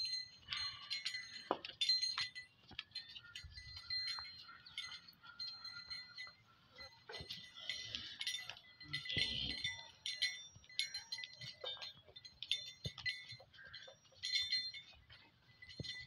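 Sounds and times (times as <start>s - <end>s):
cow bells jingling: 0.0s - 16.0s.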